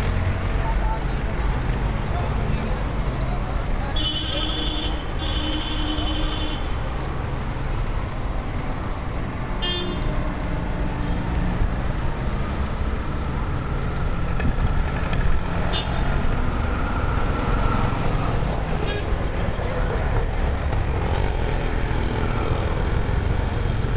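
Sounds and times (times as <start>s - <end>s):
road traffic engines: 0.0s - 23.9s.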